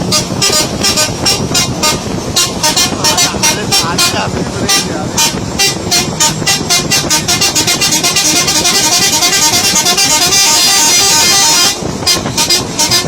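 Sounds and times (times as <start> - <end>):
truck horn: 0.0 - 13.0.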